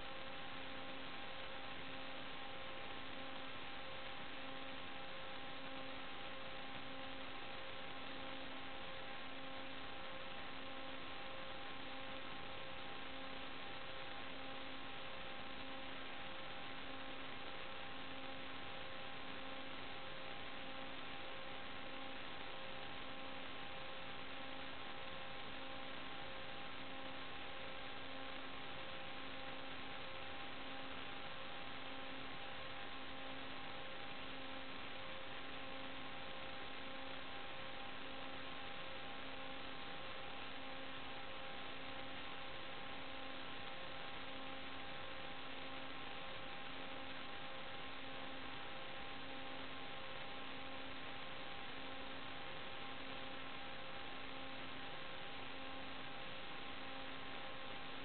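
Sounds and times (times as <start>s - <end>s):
electronic hiss with hum: 0.0s - 58.0s.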